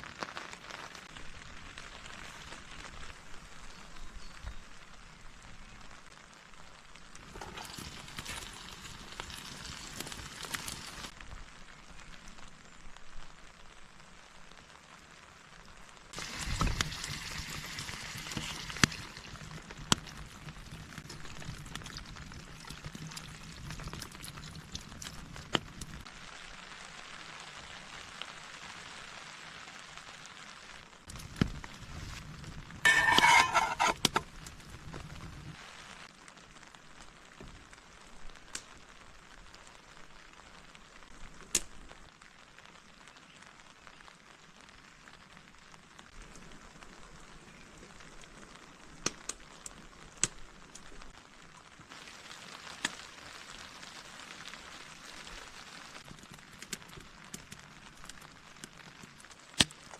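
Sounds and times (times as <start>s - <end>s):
rain on a tent: 0.0s - 32.9s, 33.8s - 59.9s.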